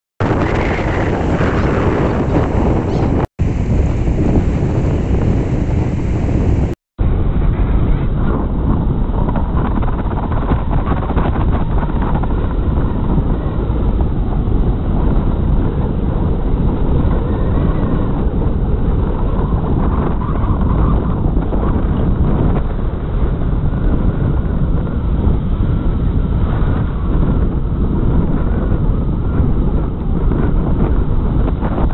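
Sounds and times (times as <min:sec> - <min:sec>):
wind on microphone: 0:00.2 - 0:31.9.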